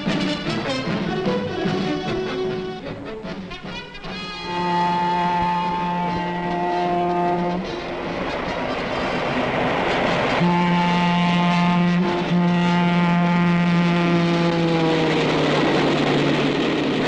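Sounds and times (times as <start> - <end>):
locomotive air horn: 0.0 - 9.3, 9.9 - 15.5
moving train rumble: 0.0 - 17.0.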